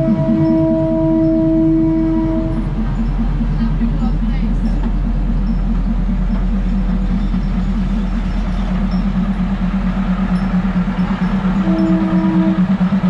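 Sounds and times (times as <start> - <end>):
diesel train rumbling past: 0.0 - 13.0.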